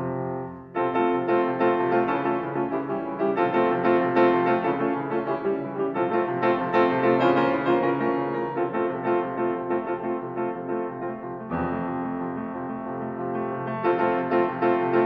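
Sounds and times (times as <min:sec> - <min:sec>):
solo grand piano: 0:00.0 - 0:15.0.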